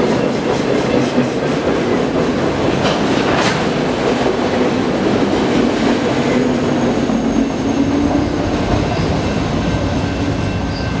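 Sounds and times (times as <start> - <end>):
train wheels roaring on rails: 0.0 - 11.0.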